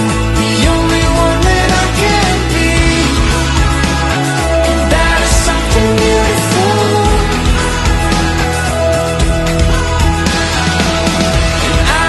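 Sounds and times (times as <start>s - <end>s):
pop-rock song: 0.0s - 12.0s.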